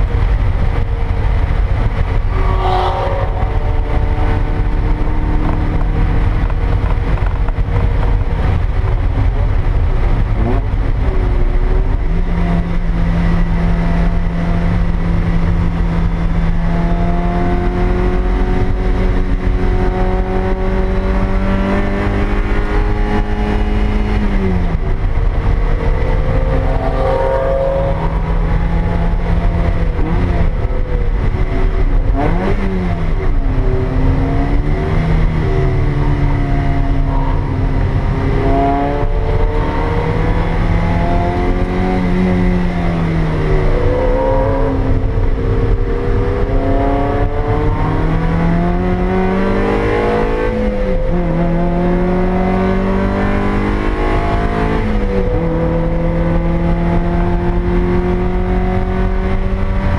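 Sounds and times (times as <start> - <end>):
car engine revving: 0.0 - 59.9
road and wind rumble: 0.0 - 59.9.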